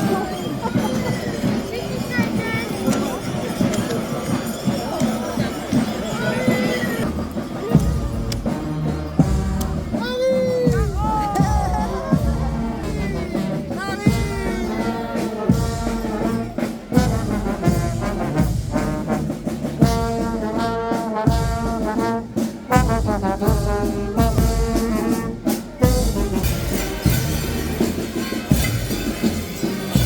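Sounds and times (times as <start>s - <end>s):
brass band playing: 0.0s - 30.0s
steady drumbeat: 0.0s - 30.0s.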